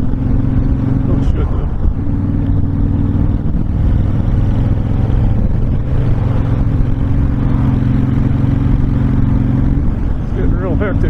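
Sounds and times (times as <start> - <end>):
motorcycle engine running: 0.0 - 11.0
wind rush over microphone: 0.0 - 11.0.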